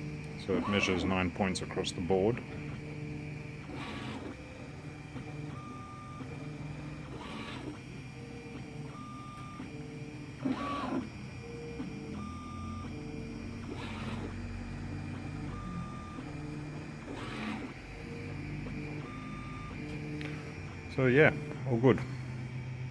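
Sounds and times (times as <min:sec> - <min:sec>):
stepper motors whining: 0:00.0 - 0:22.9.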